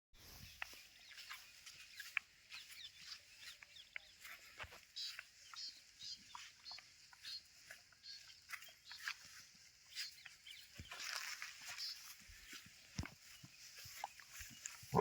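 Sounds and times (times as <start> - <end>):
faint bird chirps: 0.2 - 15.0.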